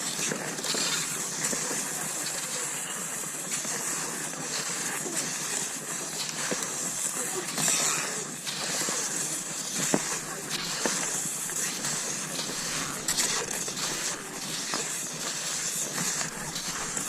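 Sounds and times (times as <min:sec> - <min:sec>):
skis swishing over snow: 0:00.0 - 0:17.0.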